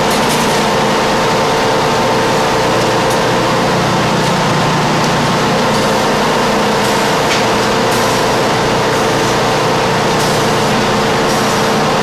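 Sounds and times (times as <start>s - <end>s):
factory machinery humming: 0.0s - 12.0s.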